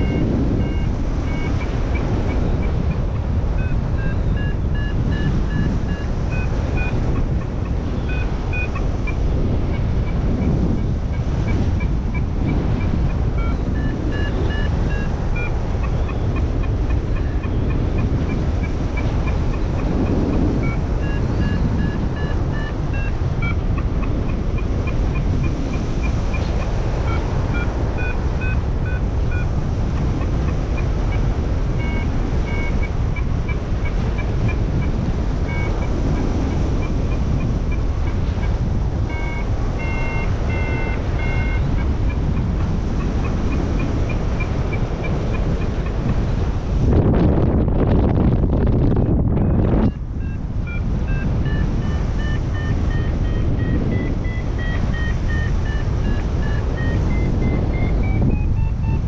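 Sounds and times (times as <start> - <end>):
variometer beeping: 0.0 - 47.0, 48.5 - 59.0
wind on microphone: 0.0 - 59.0.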